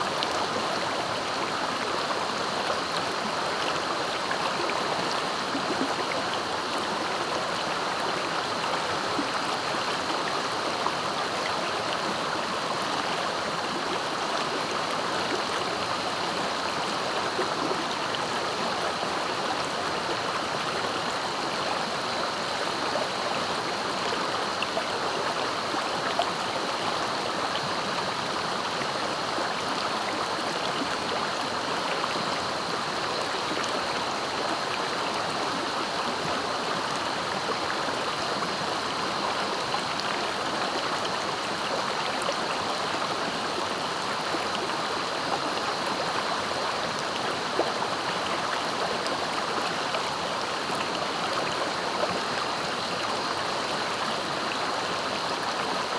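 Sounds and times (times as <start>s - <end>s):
river rushing over its bed: 0.0s - 55.9s.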